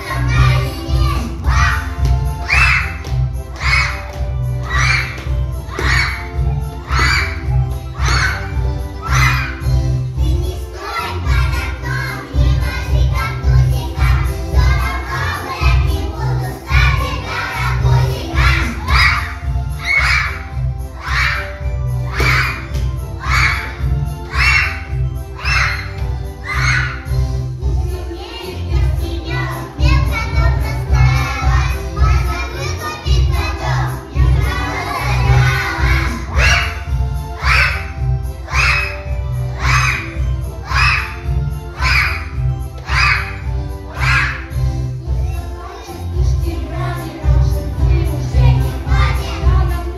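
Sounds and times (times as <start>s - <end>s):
children singing: 0.0s - 49.9s
musical accompaniment with beat: 0.0s - 49.9s.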